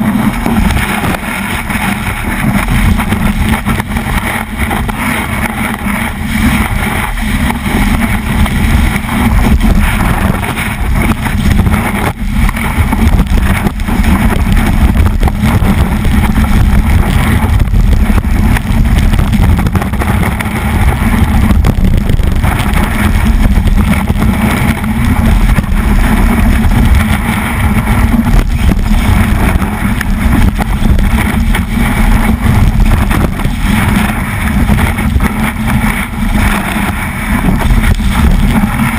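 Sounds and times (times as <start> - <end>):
snowboard sliding over snow: 0.0 - 38.9
wind on microphone: 0.0 - 38.9.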